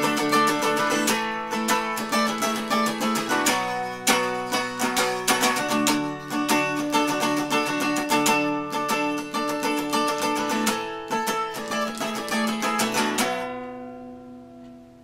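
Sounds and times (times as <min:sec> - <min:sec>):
electric guitar strumming: 0:00.0 - 0:15.0.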